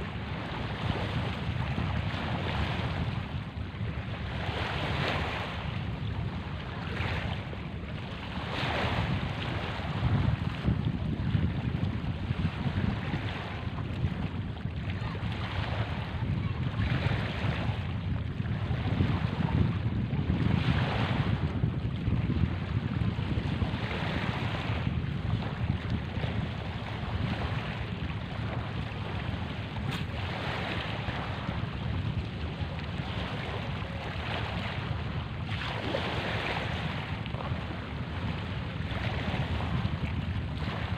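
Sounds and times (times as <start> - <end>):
waves washing on stony shore: 0.0 - 40.9
wind rumble on microphone: 0.0 - 40.9.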